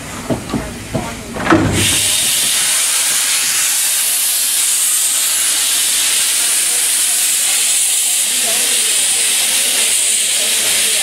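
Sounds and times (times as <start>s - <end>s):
steam locomotive hissing steam: 1.6s - 11.0s.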